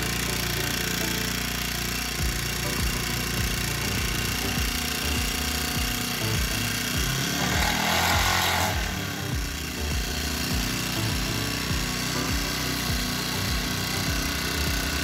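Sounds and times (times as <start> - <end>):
brushcutter engine running: 0.0 - 15.0.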